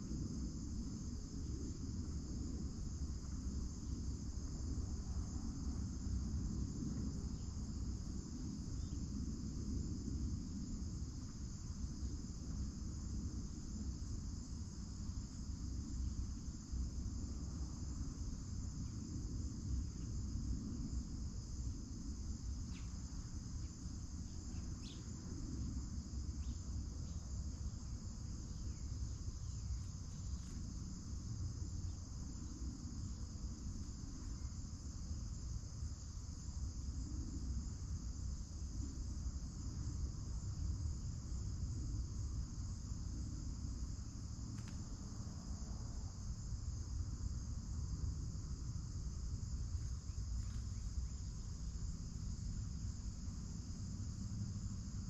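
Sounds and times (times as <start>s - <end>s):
crickets and insects droning: 0.0s - 55.0s.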